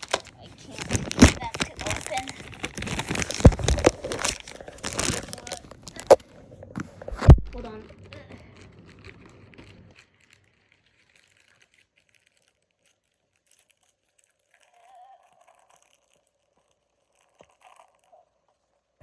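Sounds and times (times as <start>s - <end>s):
plastic packaging crinkling: 0.0s - 18.6s.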